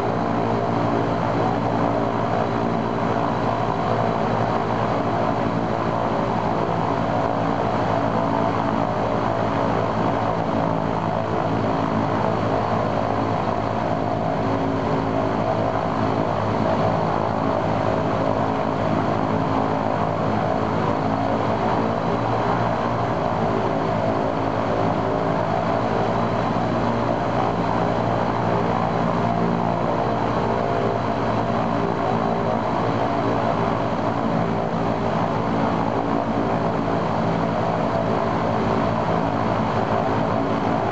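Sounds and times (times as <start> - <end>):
radial piston engine and propeller: 0.0 - 40.9.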